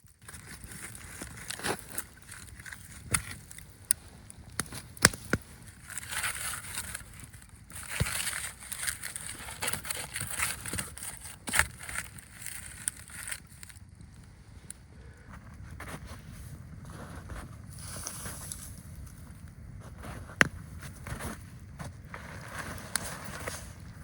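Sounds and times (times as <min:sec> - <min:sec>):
rustling and handling: 0:00.2 - 0:13.9, 0:15.4 - 0:23.9.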